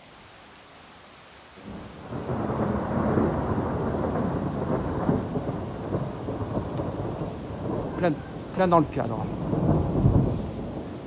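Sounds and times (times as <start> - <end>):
light rain hiss: 0.0 - 11.0
rumbling thunder: 1.6 - 11.0.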